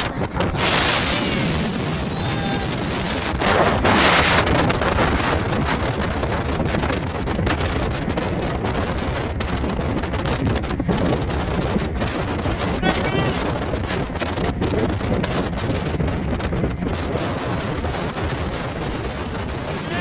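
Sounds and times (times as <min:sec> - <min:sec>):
outboard boat engine running: 0:00.0 - 0:20.0
wind buffeting microphone: 0:00.0 - 0:20.0.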